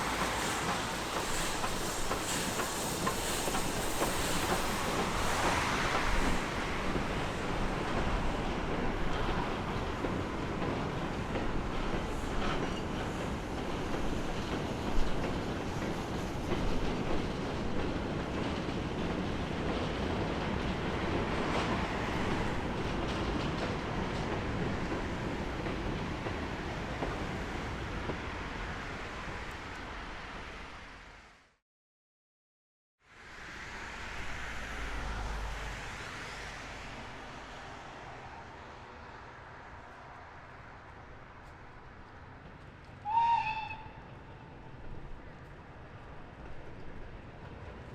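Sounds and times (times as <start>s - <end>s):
train rumbling: 0.0s - 31.6s, 33.2s - 47.9s.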